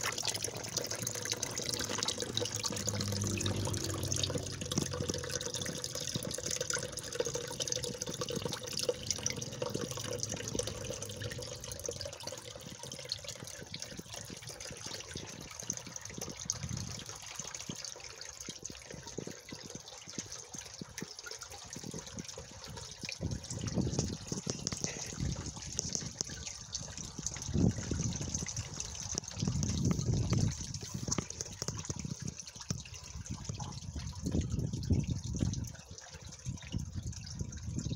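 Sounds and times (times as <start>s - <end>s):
water trickling and splashing into pool: 0.0s - 37.9s.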